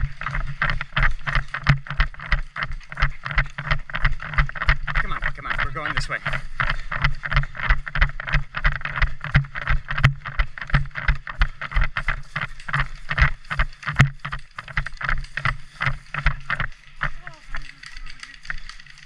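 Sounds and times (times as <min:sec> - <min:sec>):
clothing rubbing on microphone: 0:00.0 - 0:19.0
quick footsteps: 0:00.0 - 0:19.0
sharp clicks: 0:00.0 - 0:19.0.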